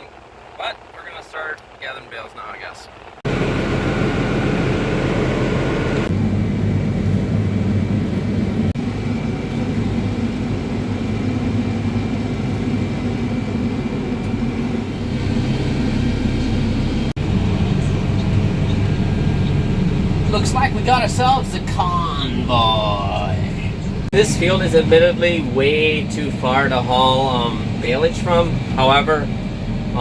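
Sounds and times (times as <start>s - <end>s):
vehicle engine running: 2.6s - 30.0s.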